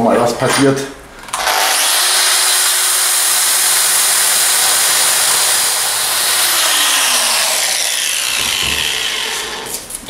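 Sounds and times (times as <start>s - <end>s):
angle grinder grinding steel: 1.3s - 10.0s.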